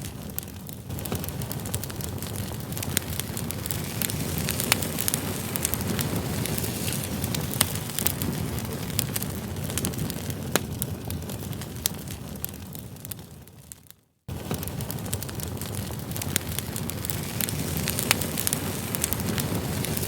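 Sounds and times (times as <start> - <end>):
campfire flames rushing: 0.0 - 20.0
logs crackling and popping: 0.0 - 20.0.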